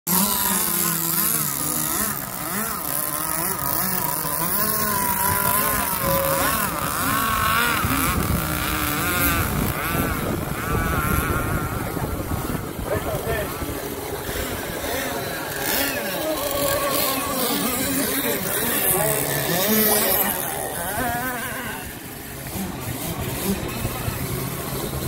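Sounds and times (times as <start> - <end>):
model boat engine revving: 0.1 - 25.0.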